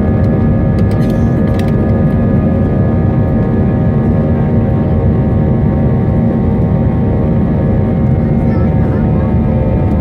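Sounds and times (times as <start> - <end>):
jet engines roaring: 0.0 - 10.0
whining engine tones: 0.0 - 10.0.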